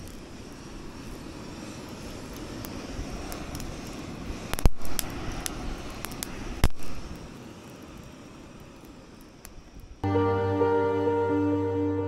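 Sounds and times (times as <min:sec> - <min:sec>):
butane torch roaring: 0:00.0 - 0:12.0.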